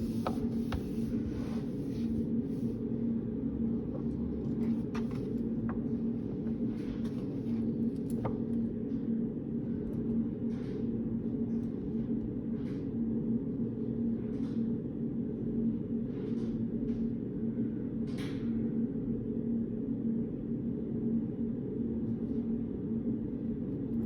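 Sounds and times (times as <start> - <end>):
ventilation hum: 0.0 - 24.0.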